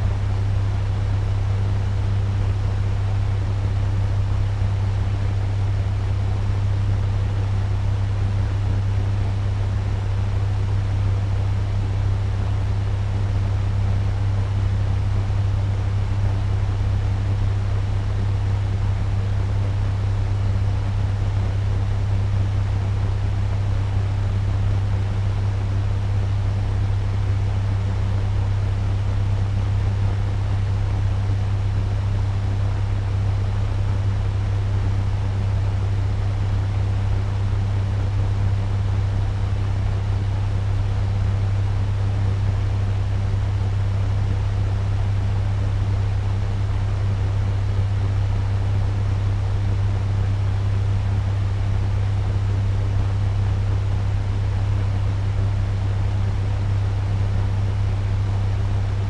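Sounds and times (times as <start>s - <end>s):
constant low hum: 0.0s - 59.0s.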